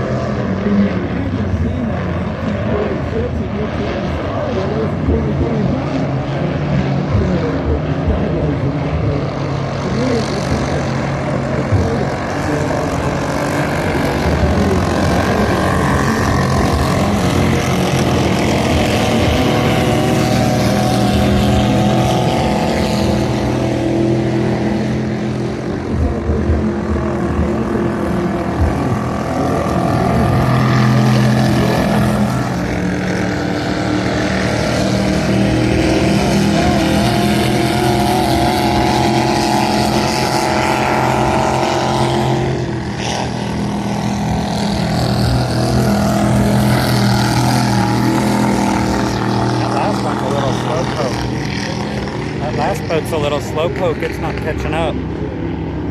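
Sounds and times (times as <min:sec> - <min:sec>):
speedboat engines passing: 0:00.0 - 0:55.9.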